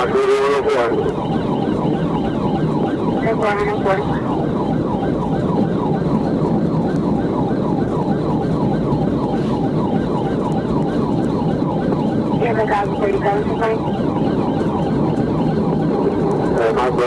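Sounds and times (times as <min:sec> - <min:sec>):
police siren yelping: 0:00.0 - 0:17.0.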